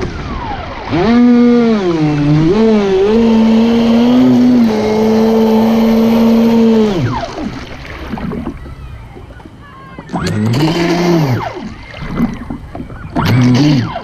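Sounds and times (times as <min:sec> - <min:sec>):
water splashing against hull: 0:00.0 - 0:14.0
electric motor whining: 0:00.9 - 0:09.2, 0:10.1 - 0:14.0.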